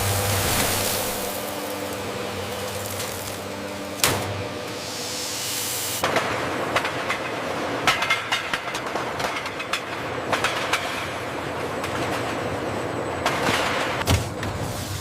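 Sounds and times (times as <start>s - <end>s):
production line machinery running: 0.0s - 15.0s.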